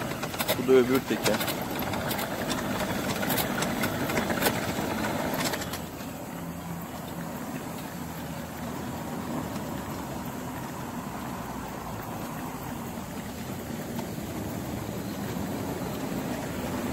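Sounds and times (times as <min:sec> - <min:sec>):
wheelchair rattling over paving: 0:00.0 - 0:16.9.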